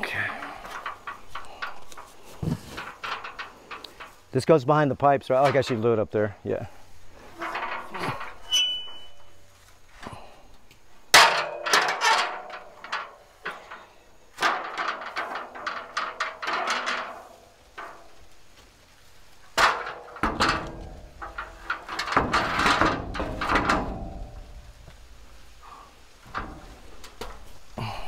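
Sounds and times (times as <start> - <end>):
metal ladder clanking and rattling: 0.0 - 4.5, 5.3 - 6.3, 7.1 - 10.3, 11.1 - 18.4, 19.2 - 28.0.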